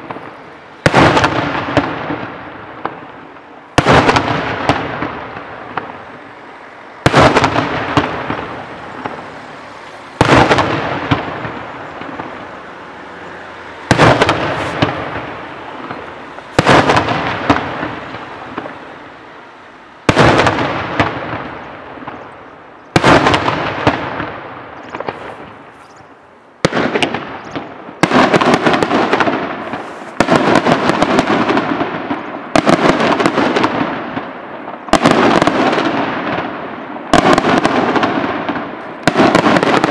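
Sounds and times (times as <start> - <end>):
firework crackling: 0.0 - 39.9.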